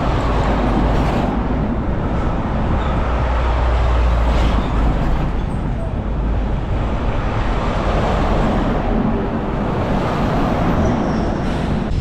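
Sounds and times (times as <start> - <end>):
passing traffic rumble: 0.0 - 12.0
wind rushing over microphone: 0.0 - 12.0.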